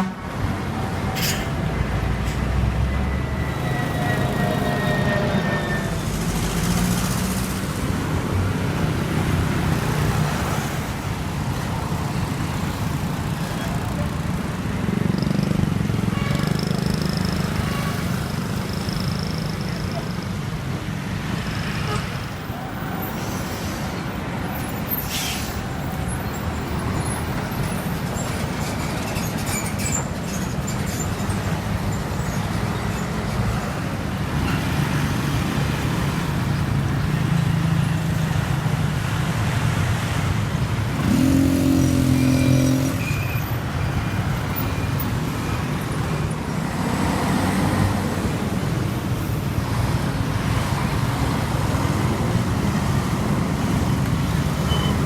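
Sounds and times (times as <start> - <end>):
truck engines in traffic: 0.0 - 55.0.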